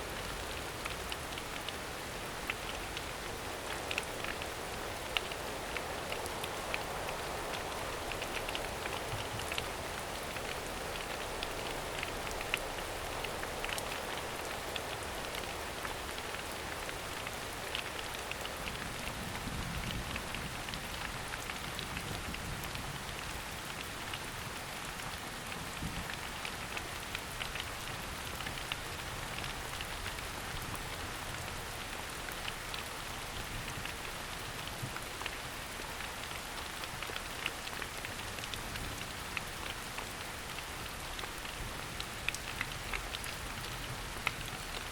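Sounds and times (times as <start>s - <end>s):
rain falling on forest: 0.0s - 44.9s.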